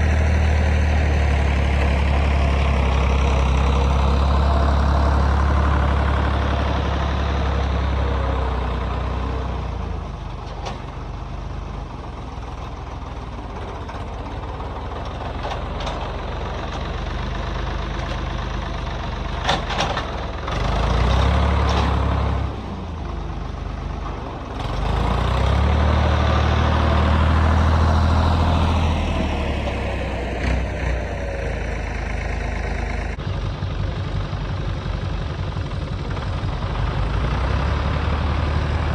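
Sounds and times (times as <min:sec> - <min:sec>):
heavy vehicle engine rumbling: 0:00.0 - 0:38.9.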